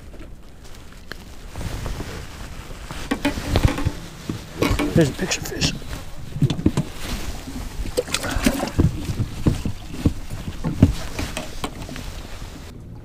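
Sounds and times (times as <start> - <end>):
jacket fabric rustling: 0.0 - 12.7.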